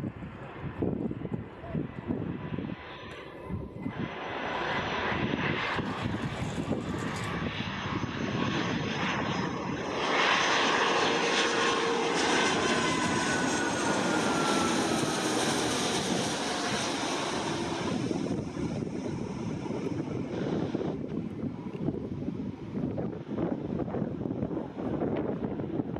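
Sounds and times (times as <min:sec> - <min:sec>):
jet engines passing overhead: 0:00.0 - 0:25.9.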